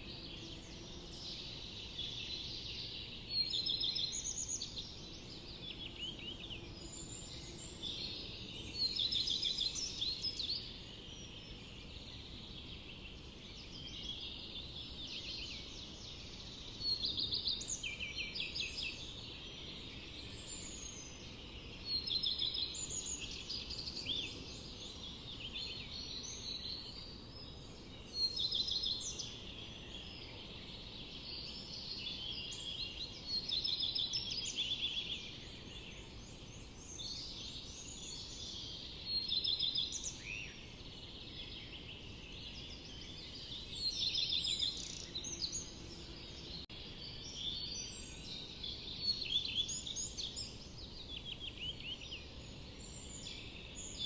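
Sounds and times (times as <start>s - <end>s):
background birds calling: 0.0s - 54.0s
bird singing rapid song phrase: 0.0s - 54.0s.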